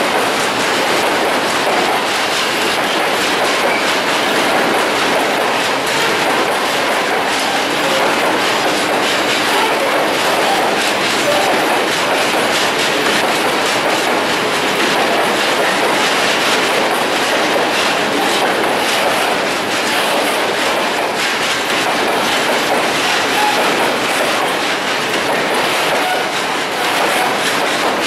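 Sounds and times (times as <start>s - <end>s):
freight train rolling past: 0.0s - 28.0s
wheels clattering over rail joints: 0.0s - 28.0s.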